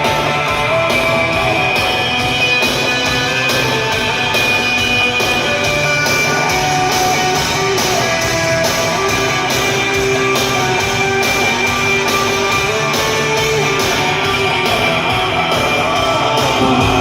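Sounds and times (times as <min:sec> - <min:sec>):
steady drum beat: 0:00.0 - 0:17.0
guitars holding sustained notes: 0:00.2 - 0:17.0.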